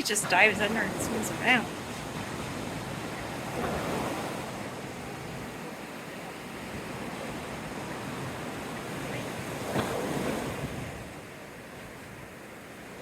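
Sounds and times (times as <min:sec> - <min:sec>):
waves washing on beach: 0:00.0 - 0:13.0
wind buffeting microphone: 0:00.0 - 0:13.0.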